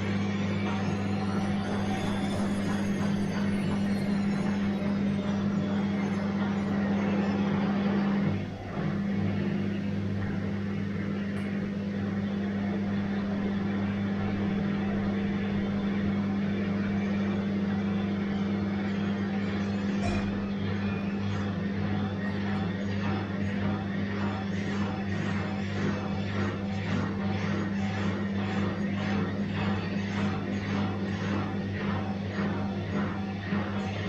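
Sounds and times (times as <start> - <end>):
washing machine humming: 0.0 - 34.0.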